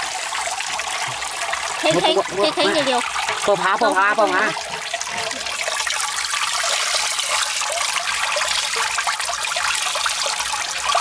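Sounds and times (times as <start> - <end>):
liquid trickling: 0.0 - 11.0.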